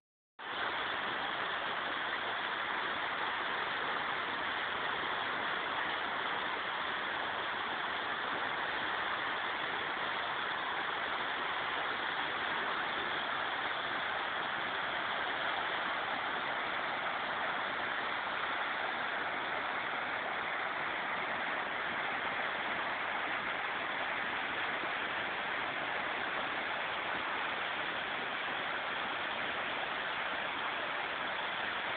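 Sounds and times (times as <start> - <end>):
river water rushing: 0.4 - 31.9.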